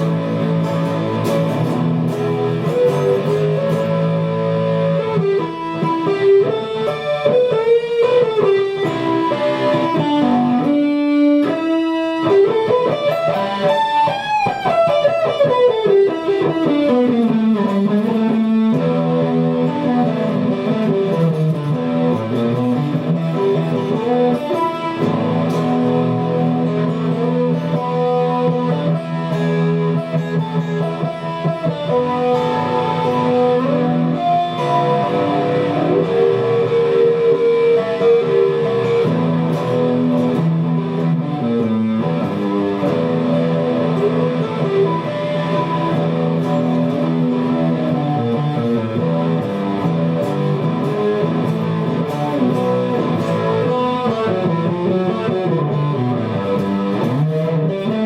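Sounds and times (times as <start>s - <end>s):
plucked guitar melody: 0.0s - 58.0s.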